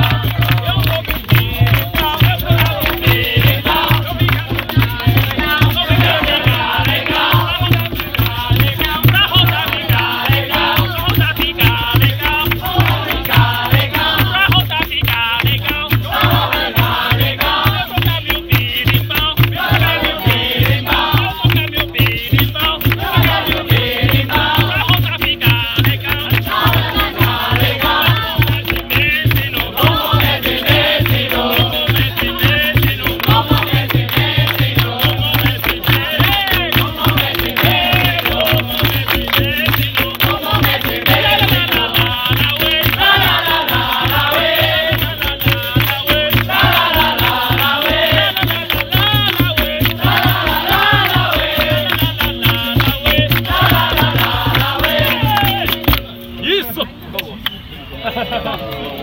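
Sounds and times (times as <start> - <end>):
voices singing: 0.0 - 56.5, 57.7 - 59.0
berimbaus and percussion: 0.0 - 57.6.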